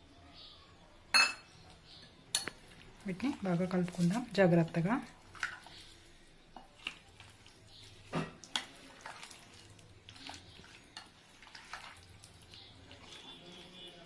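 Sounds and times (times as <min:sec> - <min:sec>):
spoon stirring food in a bowl: 0:01.2 - 0:14.0.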